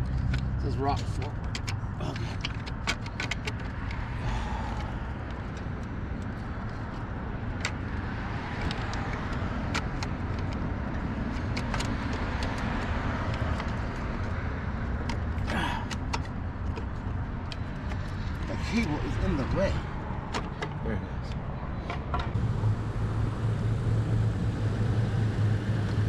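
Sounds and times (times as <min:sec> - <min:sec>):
low vehicle rumble: 0:00.0 - 0:26.0.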